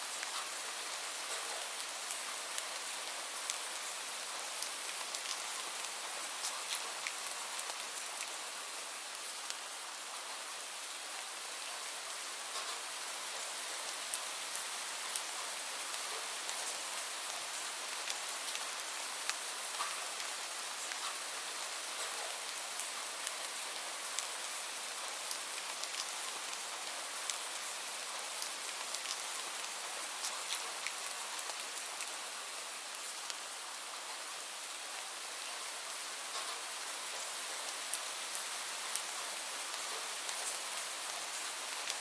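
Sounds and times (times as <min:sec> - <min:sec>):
rain on hard surfaces: 0:00.0 - 0:42.0.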